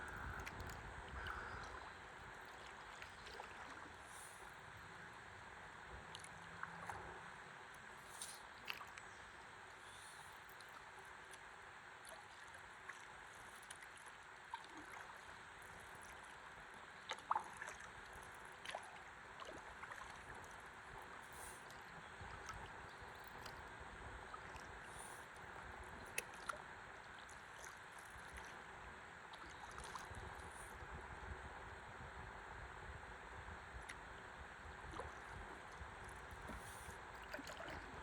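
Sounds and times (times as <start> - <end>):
river water lapping and gurgling: 0.0 - 38.0.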